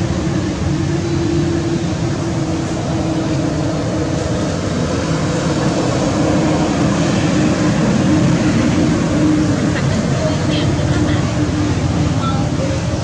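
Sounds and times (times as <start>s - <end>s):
steady rumbling noise: 0.0s - 13.0s.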